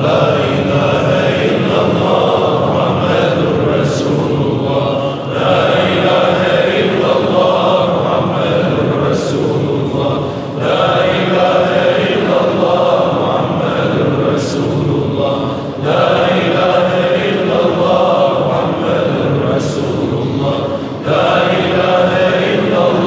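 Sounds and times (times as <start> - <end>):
men chanting in unison: 0.0 - 23.0.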